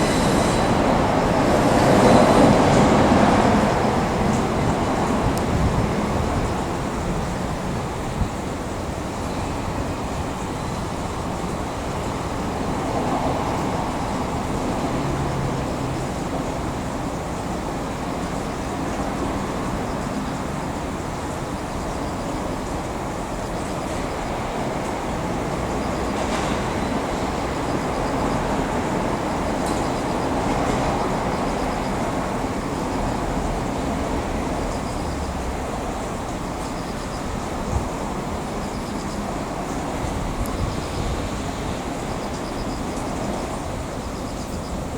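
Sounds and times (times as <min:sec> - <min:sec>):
railway cars rumbling: 0:00.0 - 0:44.9.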